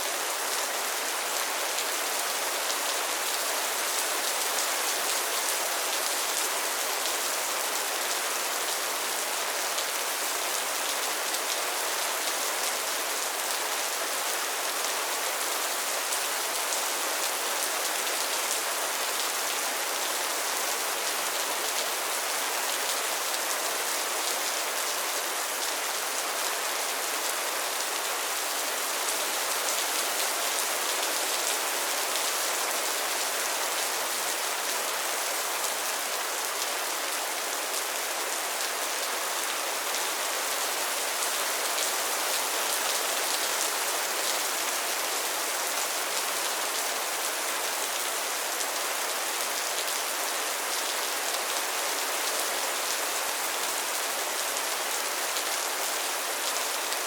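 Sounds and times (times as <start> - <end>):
rain pattering on pond water: 0.0 - 57.0.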